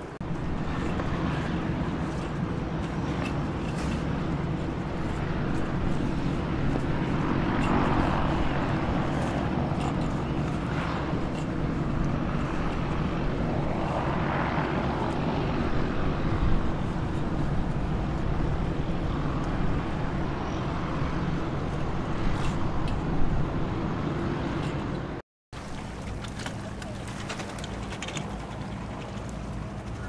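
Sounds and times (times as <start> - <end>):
propeller engine droning: 0.0 - 30.0.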